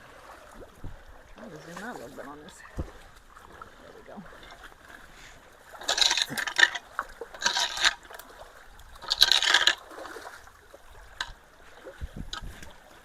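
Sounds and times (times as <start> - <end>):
splashing and scraping in water: 0.0 - 13.0
water flowing: 0.0 - 13.0.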